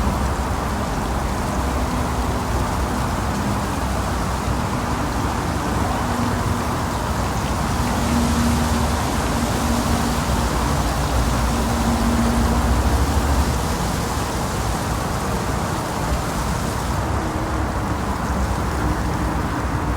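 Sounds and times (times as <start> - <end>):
steady rushing noise: 0.0 - 19.9.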